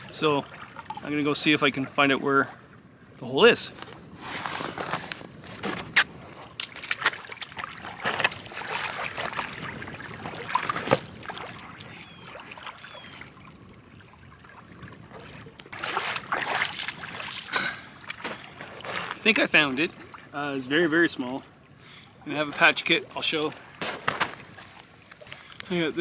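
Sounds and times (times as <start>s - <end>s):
rush of water: 0.0s - 2.7s, 3.4s - 26.0s
water sloshing and splashing: 0.0s - 2.8s, 3.6s - 26.0s.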